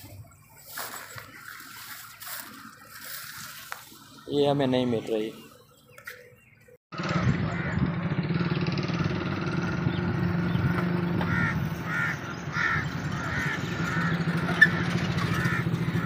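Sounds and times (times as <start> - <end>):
bird calling: 0.0 - 7.9, 9.7 - 16.0
low engine drone: 0.0 - 16.0.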